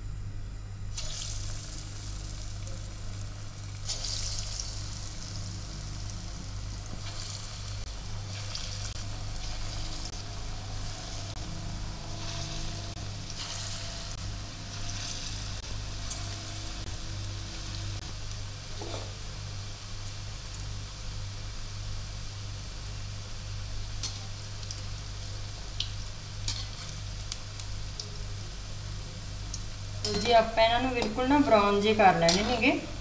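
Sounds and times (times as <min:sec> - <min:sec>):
batter sizzling in hot oil: 0:00.9 - 0:33.0.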